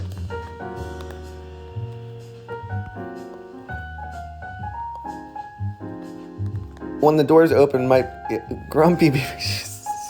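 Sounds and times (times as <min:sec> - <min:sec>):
walking bass line: 0:00.0 - 0:09.6
jazz piano chords: 0:00.0 - 0:10.0.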